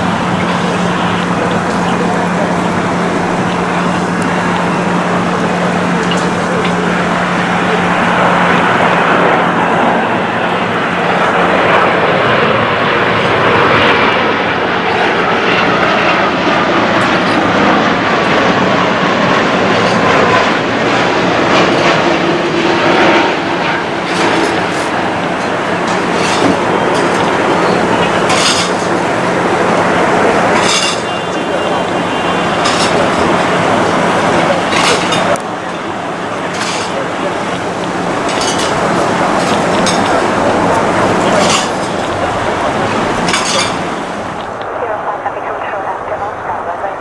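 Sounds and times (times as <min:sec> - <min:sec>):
jet engines passing close: 0:00.0 - 0:47.0.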